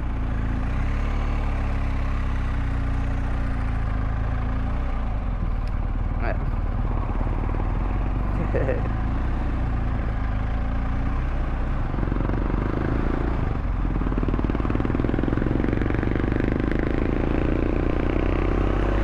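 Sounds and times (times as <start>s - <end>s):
motorcycle engine running: 0.0s - 19.0s
road and wind noise: 0.0s - 19.0s.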